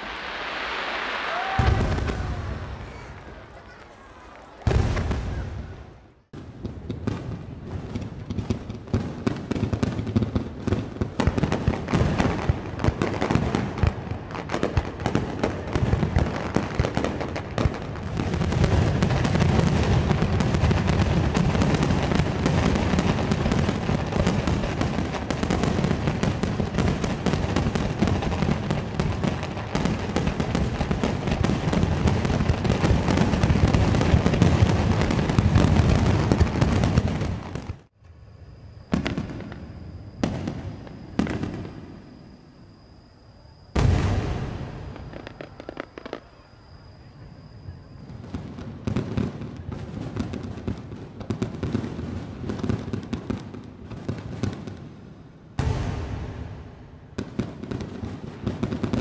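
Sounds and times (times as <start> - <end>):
deep fireworks booms: 0.0 - 3.8, 4.6 - 59.0
fireworks bursting and crackling: 0.0 - 59.0.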